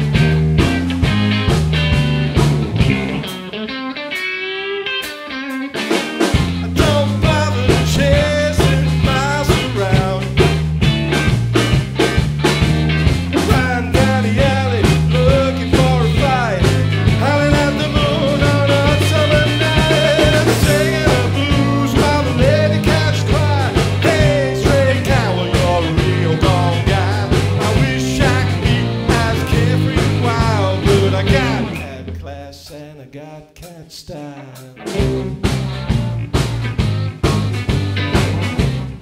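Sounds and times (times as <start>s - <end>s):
walking electric bass line: 0.0s - 32.2s, 34.9s - 39.0s
rockabilly band playing live: 0.0s - 32.3s, 34.2s - 39.0s
electric guitar lead lines: 0.0s - 32.4s, 34.3s - 39.0s.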